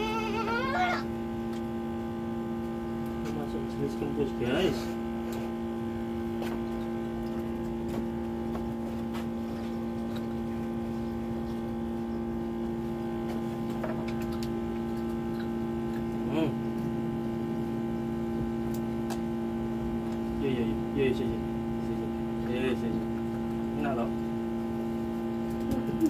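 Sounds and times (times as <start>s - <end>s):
two-tone hum: 0.0s - 26.0s.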